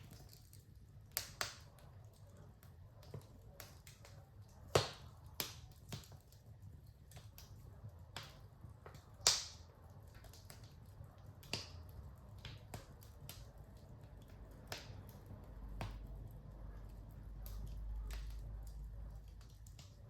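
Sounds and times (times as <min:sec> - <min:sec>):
fire popping: 0:00.0 - 0:20.0
wood fire crackling: 0:00.0 - 0:20.0.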